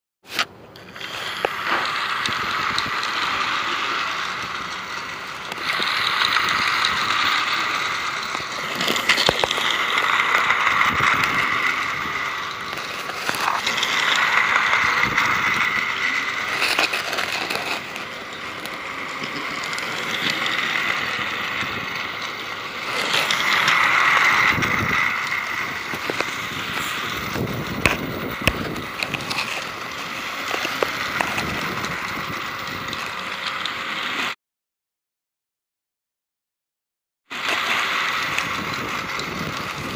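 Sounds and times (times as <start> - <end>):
toy train motor whirring: 0.2 - 34.4, 37.3 - 39.9
toy train wheels clattering: 0.3 - 34.3, 37.3 - 39.9.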